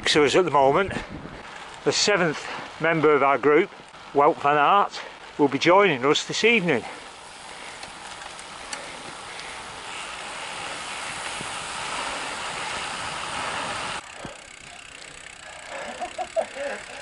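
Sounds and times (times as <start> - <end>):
wind and tyre noise: 0.0 - 15.7
outdoor background: 0.0 - 17.0.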